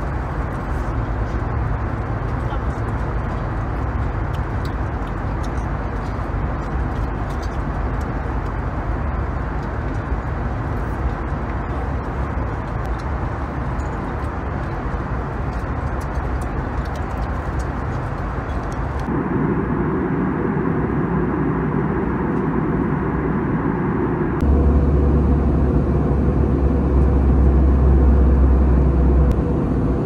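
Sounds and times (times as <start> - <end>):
airliner cabin drone: 0.0 - 30.0.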